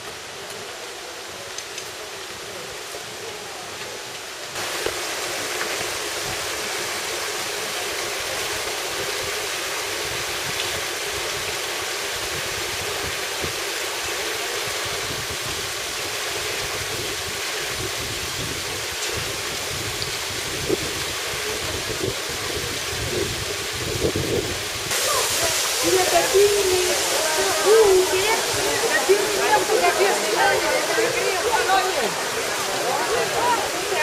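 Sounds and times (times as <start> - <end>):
waterfall pouring over rocks: 0.0 - 34.0.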